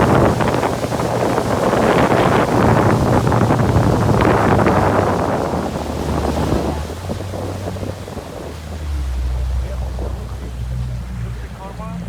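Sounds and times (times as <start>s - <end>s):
motorboat engine hum: 0.0s - 12.0s
water rushing past hull: 0.0s - 12.0s
wind buffeting microphone: 0.0s - 12.0s.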